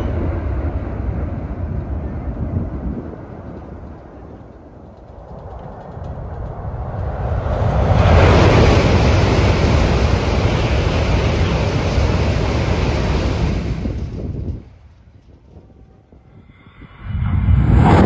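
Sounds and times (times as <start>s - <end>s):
train crossing a bridge: 0.0s - 17.5s.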